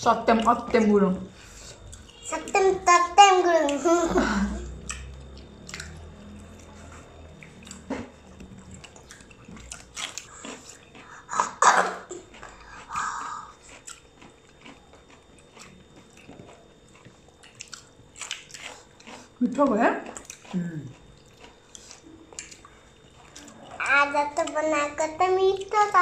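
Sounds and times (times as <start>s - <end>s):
people chewing food: 0.2s - 26.0s
crunching clicks and mouth sounds: 1.7s - 2.7s, 4.7s - 26.0s.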